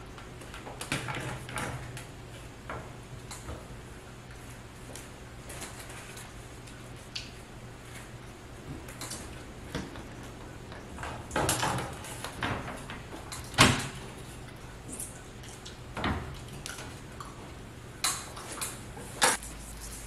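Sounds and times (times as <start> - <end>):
vent grille knocks and clicks: 0.0 - 19.4.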